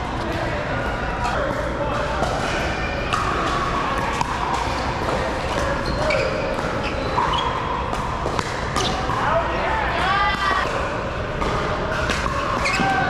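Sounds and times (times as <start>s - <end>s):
background chatter: 0.0s - 13.0s.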